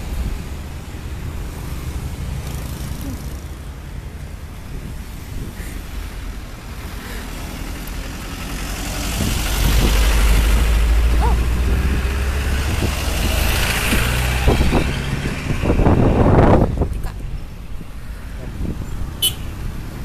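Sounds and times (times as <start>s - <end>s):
trucks driving past: 0.0s - 20.0s.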